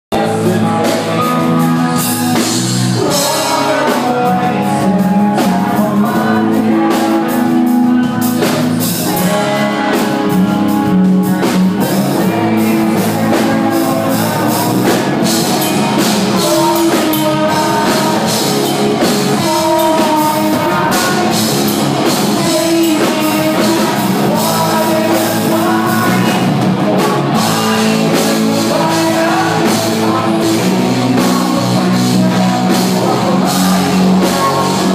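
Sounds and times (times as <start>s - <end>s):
drum kit: 0.1s - 34.9s
electric guitar: 0.1s - 34.9s
person singing: 0.1s - 34.9s.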